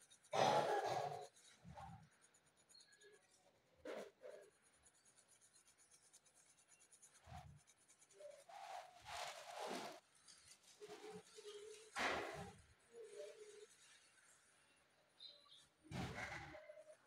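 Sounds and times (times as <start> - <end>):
pencil scratching on paper: 0.0 - 17.0.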